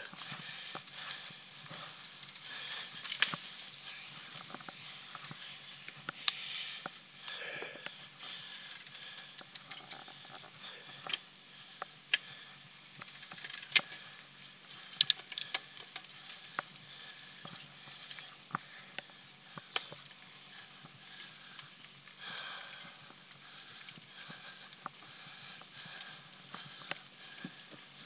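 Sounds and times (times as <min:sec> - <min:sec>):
bike rattling and clicking: 0:00.0 - 0:07.0, 0:07.9 - 0:28.0.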